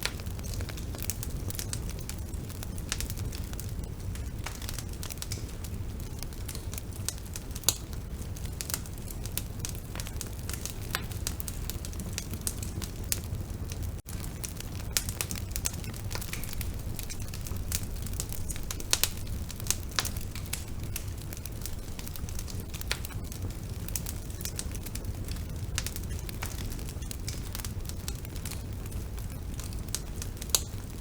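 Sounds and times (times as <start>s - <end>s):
low rumble of flames: 0.0s - 31.0s
wood crackling and popping: 0.0s - 31.0s.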